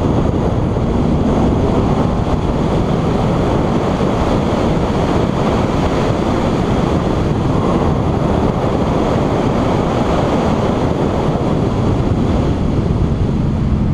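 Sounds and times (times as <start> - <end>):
car engine: 0.0 - 13.9
wind rushing over microphone: 0.0 - 13.9.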